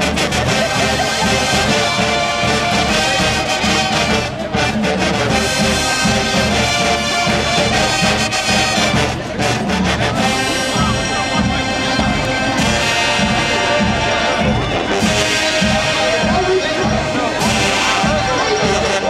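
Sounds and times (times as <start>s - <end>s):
brass section playing: 0.0s - 19.0s
drumline of snares and bass drums: 0.0s - 19.0s.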